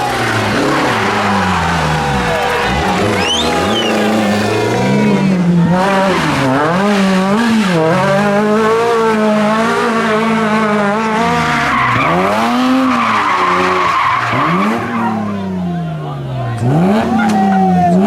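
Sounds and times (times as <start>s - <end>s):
rally car engine revving: 0.0s - 18.0s
tyres squealing and skidding: 0.0s - 18.0s.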